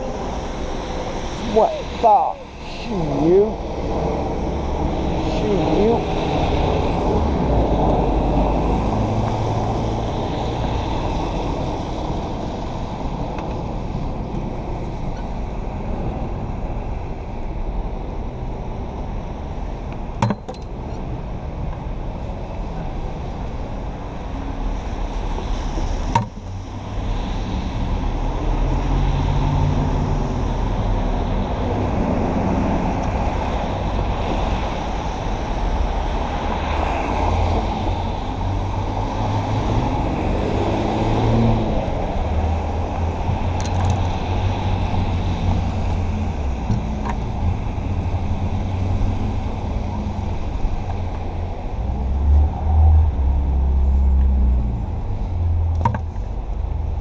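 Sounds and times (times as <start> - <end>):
traffic on wet road: 0.0 - 57.0.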